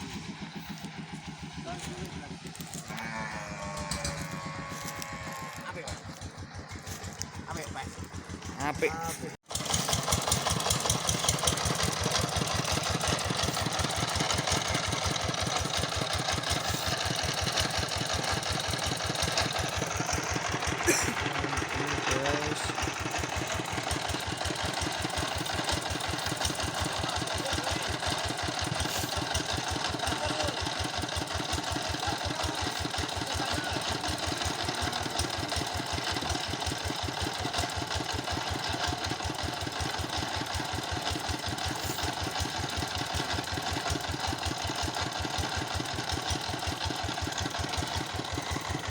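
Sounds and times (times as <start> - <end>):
engine knocking steadily: 0.0 - 48.9.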